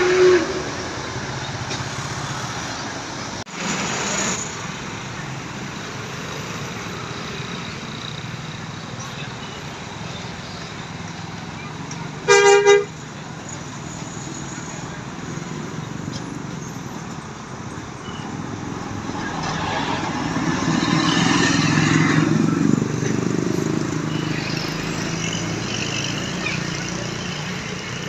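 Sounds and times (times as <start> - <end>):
bus engine passing by: 0.0 - 12.3, 13.0 - 28.0
traffic noise: 0.0 - 28.0.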